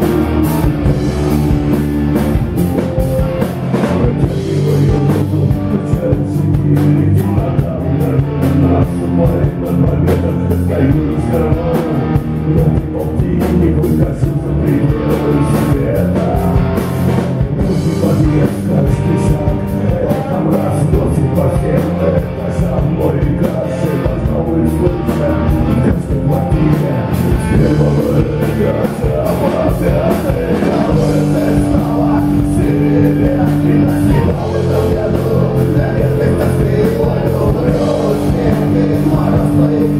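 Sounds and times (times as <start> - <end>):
drum kit: 0.0 - 39.9
guitars: 0.0 - 39.9
rock band playing live: 0.0 - 39.9.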